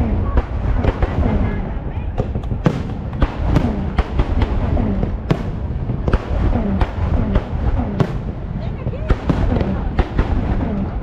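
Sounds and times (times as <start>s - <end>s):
fireworks bangs and pops: 0.0s - 11.0s
heavy low rumble: 0.0s - 11.0s.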